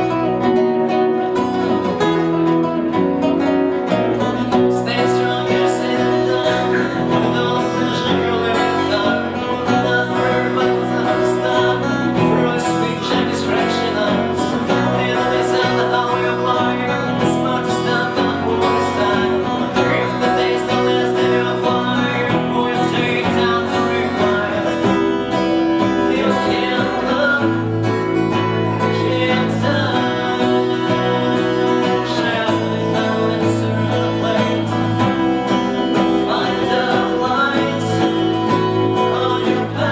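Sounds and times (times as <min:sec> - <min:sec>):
acoustic guitars strumming: 0:00.0 - 0:39.9
bass guitar line: 0:00.0 - 0:39.9.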